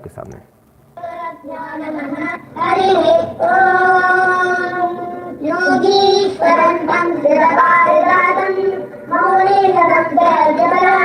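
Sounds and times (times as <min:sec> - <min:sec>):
child chanting a melody: 0:01.0 - 0:11.0.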